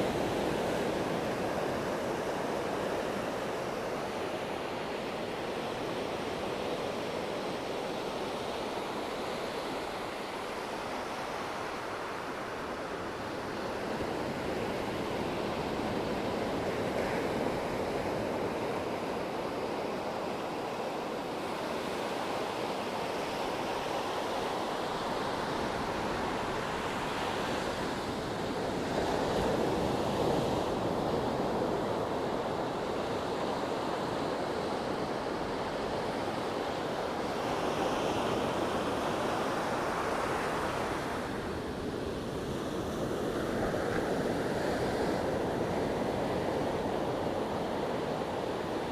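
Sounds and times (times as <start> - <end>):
sea waves washing on shore: 0.0 - 48.9.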